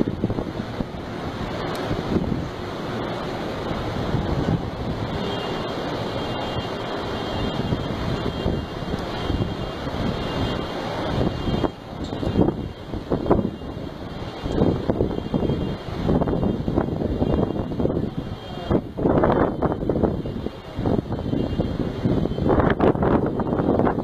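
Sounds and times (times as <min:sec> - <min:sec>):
breaking surf: 0:00.0 - 0:24.0
strong storm wind: 0:00.0 - 0:24.0
wind buffeting microphone: 0:00.0 - 0:24.0.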